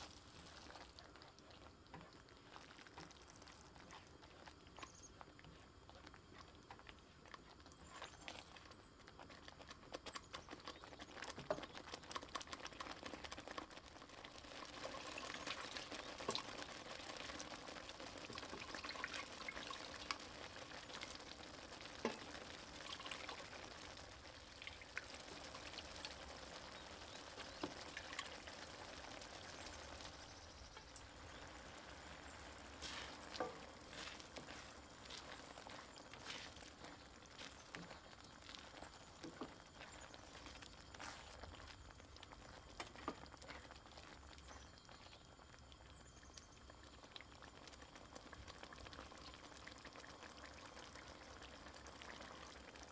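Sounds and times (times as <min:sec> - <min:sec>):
spatula stirring: 0:00.0 - 0:45.2
chickpeas poured into bubbling sauce: 0:00.0 - 0:52.9.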